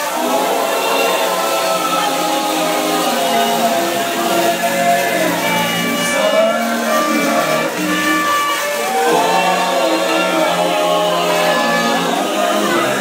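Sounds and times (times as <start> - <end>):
live dance band playing: 0.0 - 13.0
person singing: 0.0 - 13.0.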